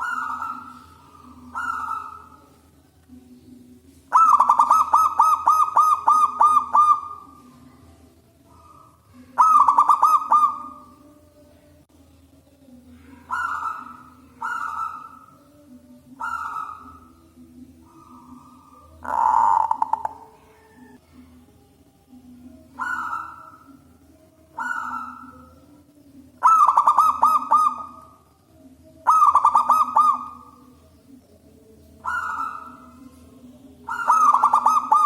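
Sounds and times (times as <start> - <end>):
dove cooing: 0.0 - 2.7, 4.0 - 11.2, 12.9 - 21.0, 22.5 - 28.3, 29.0 - 35.0.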